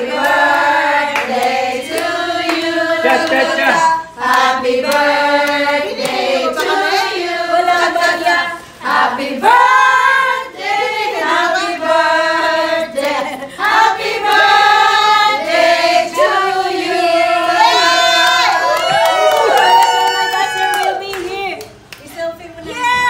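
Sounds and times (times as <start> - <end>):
women singing together: 0.0 - 19.7.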